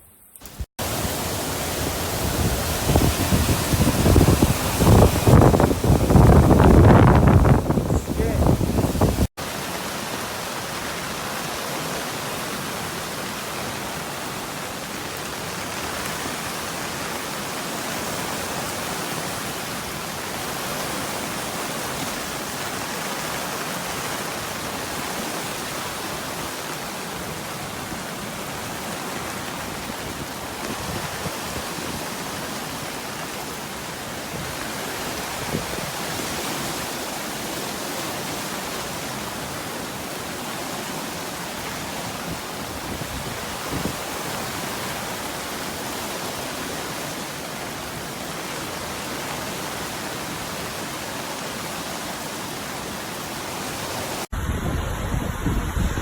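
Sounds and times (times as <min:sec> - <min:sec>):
river rushing in flood: 0:00.4 - 0:56.0.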